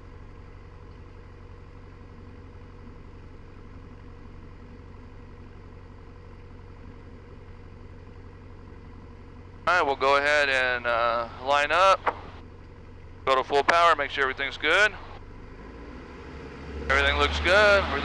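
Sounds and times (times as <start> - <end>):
propeller plane engine idling: 0.0 - 15.4.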